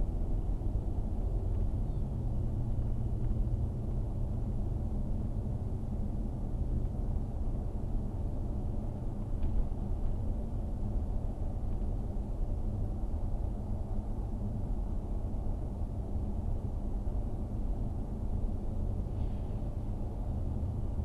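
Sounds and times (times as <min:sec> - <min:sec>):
faint steady hum: 0:00.0 - 0:21.0
road and engine rumble: 0:00.0 - 0:21.0.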